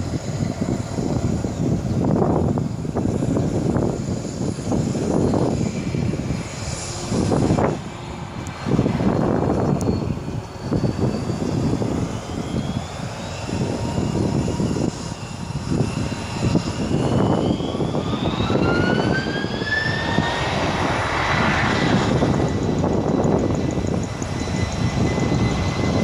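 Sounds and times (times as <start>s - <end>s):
jet engines spooling up: 0.0s - 26.0s
rising engine whine: 0.0s - 26.0s.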